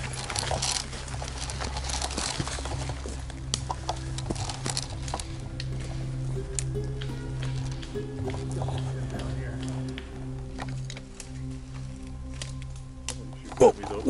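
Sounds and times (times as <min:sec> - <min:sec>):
footsteps through undergrowth: 0:00.0 - 0:14.0
low background music: 0:00.0 - 0:14.0.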